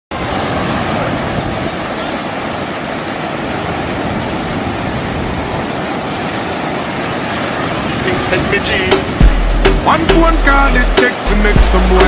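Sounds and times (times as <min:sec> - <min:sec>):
ocean surf breaking: 0:00.1 - 0:12.0.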